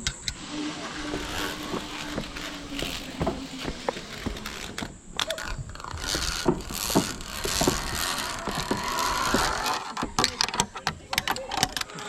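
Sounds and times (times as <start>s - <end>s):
zip-line pulleys whirring on cable: 0.3s - 10.3s
scattered knocks: 1.0s - 11.9s.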